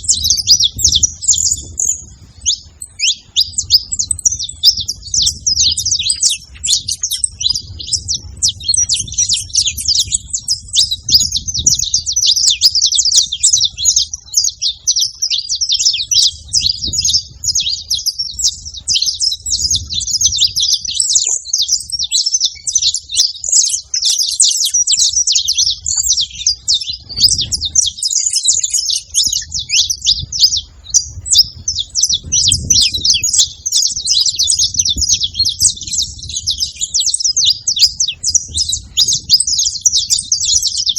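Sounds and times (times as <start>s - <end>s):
finches chirping: 0.0s - 40.9s.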